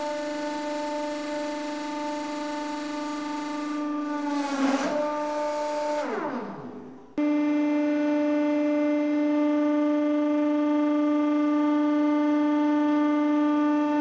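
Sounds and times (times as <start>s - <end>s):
hydraulic pump motor whine: 0.0s - 14.0s.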